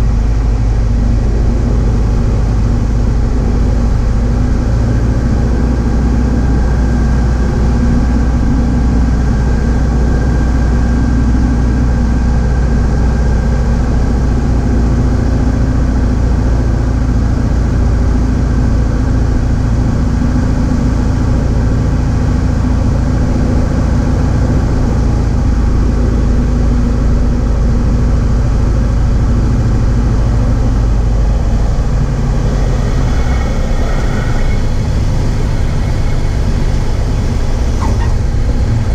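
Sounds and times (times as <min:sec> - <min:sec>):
airplane engine and propeller: 0:00.0 - 0:38.9.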